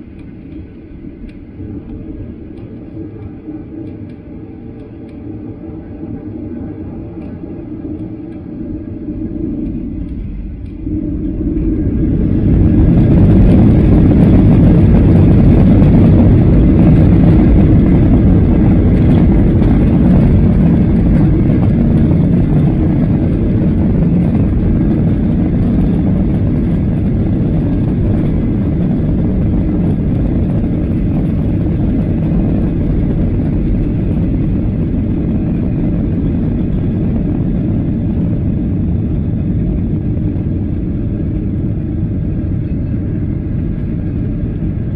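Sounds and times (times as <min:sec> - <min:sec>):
jet engines rumbling in cabin: 0:00.0 - 0:44.9.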